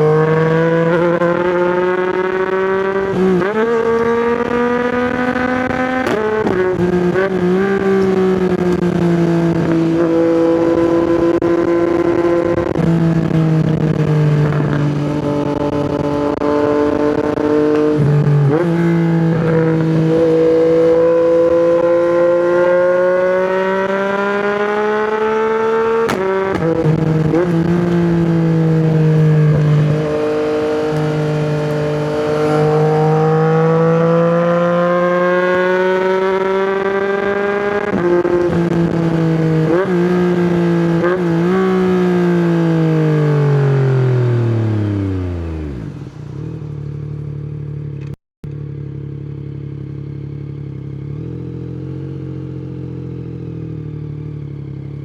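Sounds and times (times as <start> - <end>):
abrupt gear changes: 0.0 - 47.3
motorcycle engine revving: 0.0 - 55.0.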